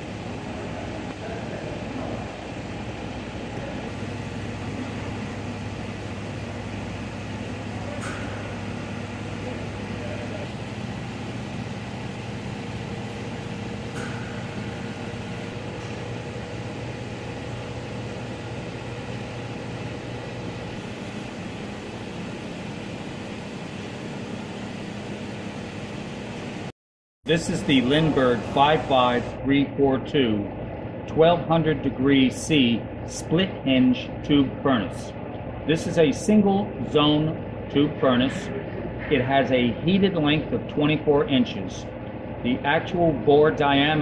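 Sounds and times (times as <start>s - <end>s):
electrical fan drone: 0.0s - 26.7s, 27.3s - 44.0s.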